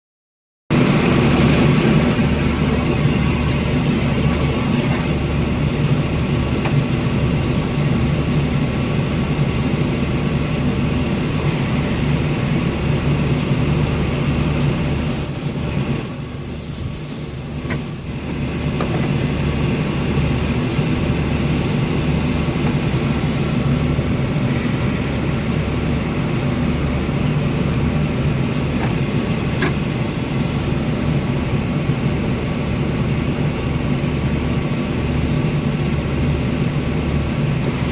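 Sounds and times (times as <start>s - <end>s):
air-conditioning compressor running: 0.7s - 37.9s
car engine idling: 1.0s - 14.9s, 17.2s - 37.9s.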